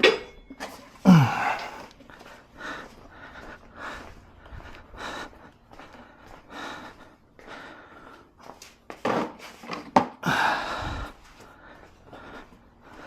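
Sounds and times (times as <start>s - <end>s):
man breathing hard: 1.0s - 8.7s, 10.2s - 13.0s.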